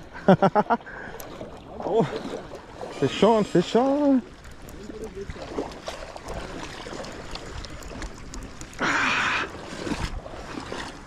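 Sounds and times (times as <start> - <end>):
river water washing: 0.0 - 11.0.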